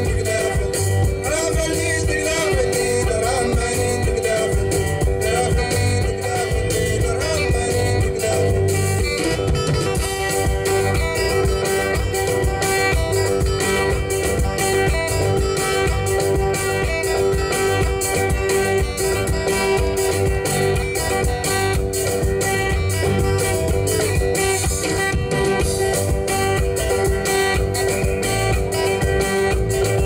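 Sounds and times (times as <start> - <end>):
drum kit steady beat: 0.0 - 30.0
electric guitars picking: 0.0 - 30.0.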